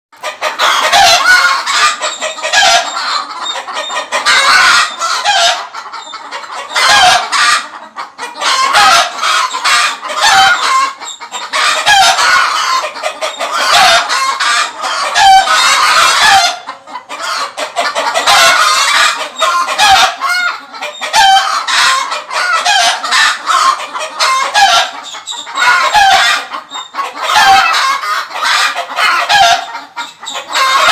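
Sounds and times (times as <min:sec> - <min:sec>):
roosters crowing: 0:00.2 - 0:05.7, 0:08.4 - 0:30.9
hens clucking: 0:00.2 - 0:30.9.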